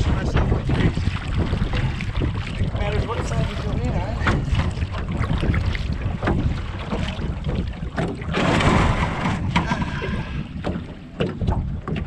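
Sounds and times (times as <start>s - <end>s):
oars knocking: 0.0s - 12.0s
water rushing: 0.0s - 12.0s
wind rumble on microphone: 0.0s - 12.0s.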